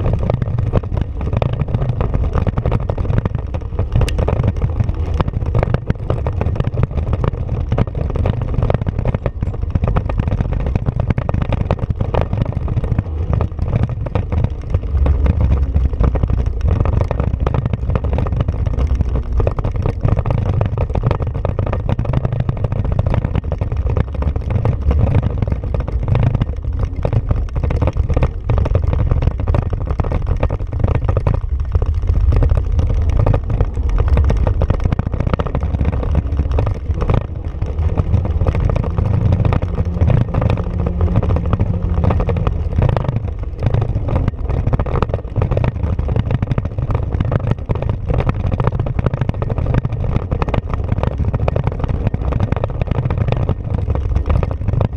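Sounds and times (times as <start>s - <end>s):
vehicle engine under load: 0.0s - 54.9s
vehicle knocks and rattles: 0.0s - 54.9s.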